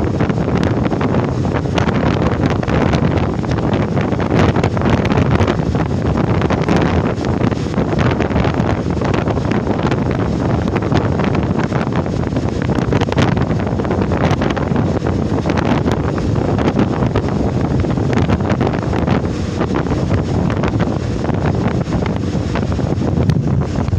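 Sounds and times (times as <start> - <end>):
strong wind buffeting microphone: 0.0 - 23.9.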